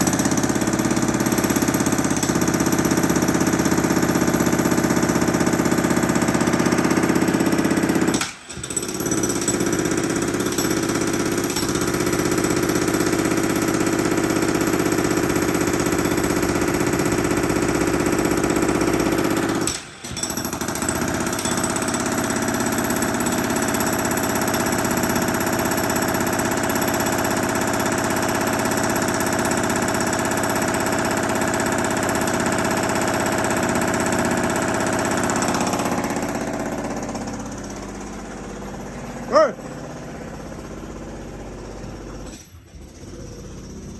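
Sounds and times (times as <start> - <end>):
jackhammer breaking concrete: 0.0 - 43.9.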